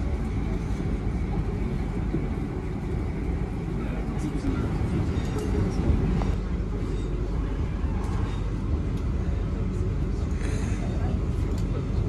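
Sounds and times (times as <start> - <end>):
electric train rumbling on track: 0.0 - 12.0.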